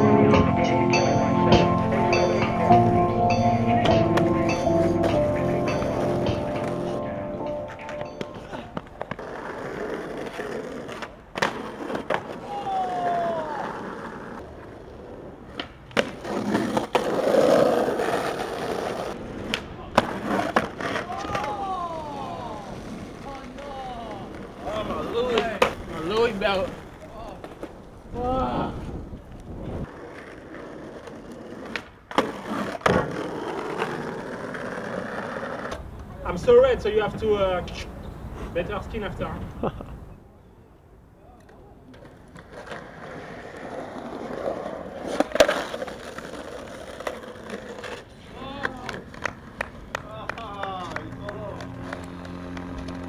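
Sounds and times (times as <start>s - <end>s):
skateboard clacking on ground: 1.6s - 27.9s, 29.2s - 36.2s, 41.3s - 53.0s
skateboard wheels on asphalt: 1.6s - 53.0s.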